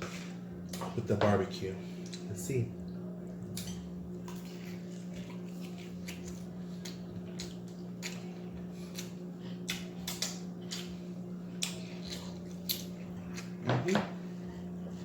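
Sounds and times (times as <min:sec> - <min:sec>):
low hum: 0:00.0 - 0:15.0
chewing and mouth sounds: 0:02.0 - 0:15.0.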